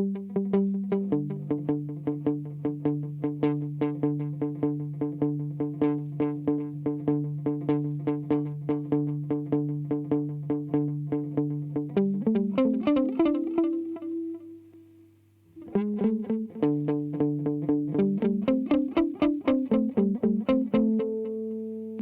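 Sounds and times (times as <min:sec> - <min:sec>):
electric guitar with echoes: 0:00.0 - 0:15.0, 0:15.6 - 0:22.0.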